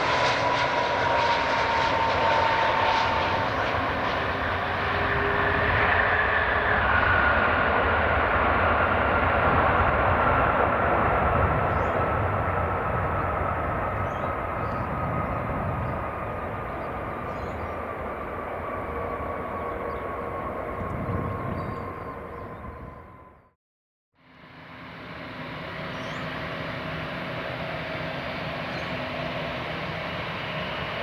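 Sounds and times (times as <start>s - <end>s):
jet engines whining: 0.0s - 23.4s, 24.7s - 31.0s.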